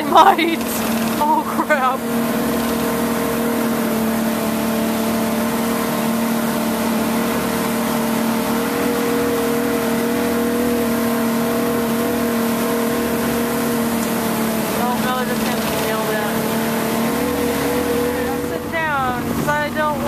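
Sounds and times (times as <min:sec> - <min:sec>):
motorboat engine drone: 0:00.0 - 0:20.0
water rushing: 0:00.0 - 0:20.0.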